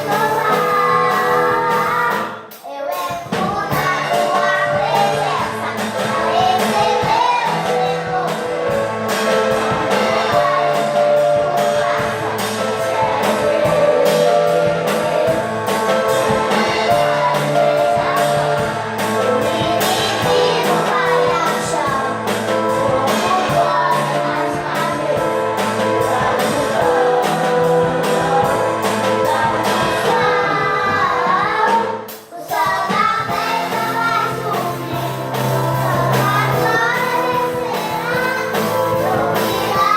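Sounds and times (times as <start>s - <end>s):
child singing: 0.0s - 8.9s, 9.6s - 39.9s
party music with sung vocals: 0.0s - 39.9s.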